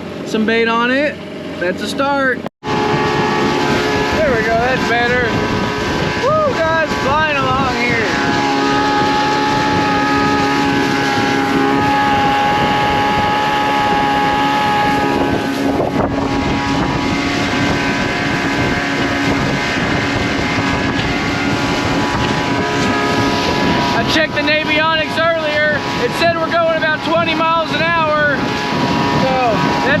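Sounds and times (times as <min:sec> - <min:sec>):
motorboat engine running: 0:00.0 - 0:30.0
wind noise on microphone: 0:02.6 - 0:30.0.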